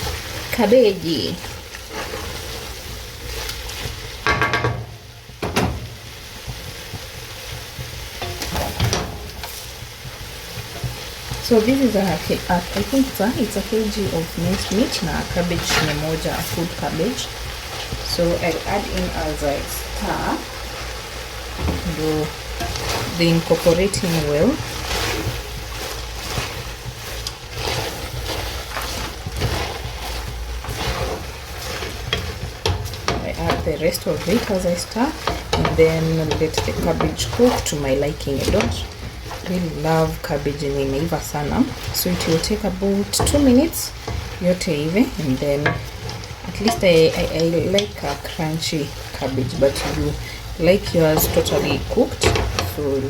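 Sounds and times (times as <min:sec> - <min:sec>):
utensil scraping against pan: 0:00.0 - 0:04.6, 0:06.5 - 0:53.0
meat and vegetables sizzling in pan: 0:00.0 - 0:53.0.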